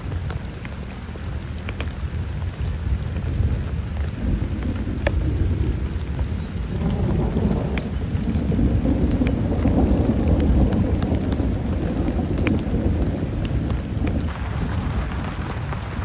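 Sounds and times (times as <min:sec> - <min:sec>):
heavy rain falling: 0:00.0 - 0:16.0
rolling thunder rumble: 0:00.0 - 0:16.0
sharp raindrop hits: 0:00.0 - 0:16.0.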